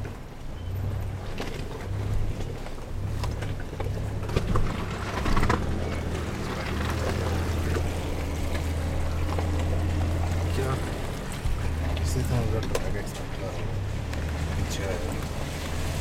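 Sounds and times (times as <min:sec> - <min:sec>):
car engine droning: 0:00.0 - 0:16.0
knocks and rattles from bumpy ride: 0:00.0 - 0:16.0.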